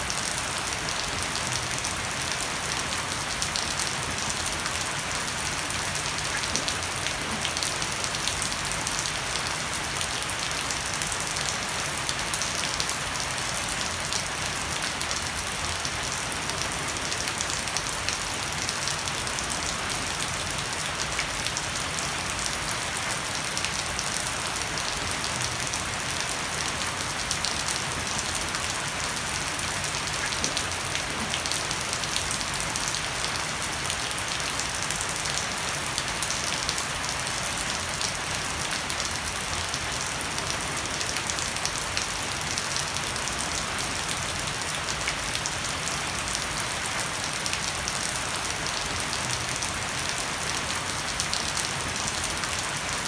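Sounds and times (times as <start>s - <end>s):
heavy rain on wood and leaves: 0.0s - 53.0s.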